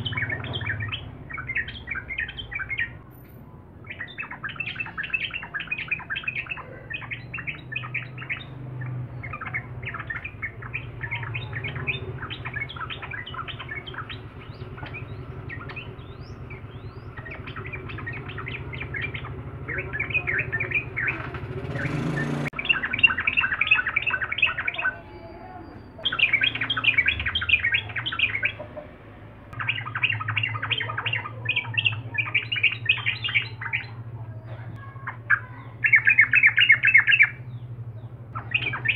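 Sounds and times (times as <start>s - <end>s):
bird singing in chattering bursts: 0.0s - 28.9s, 29.5s - 38.9s.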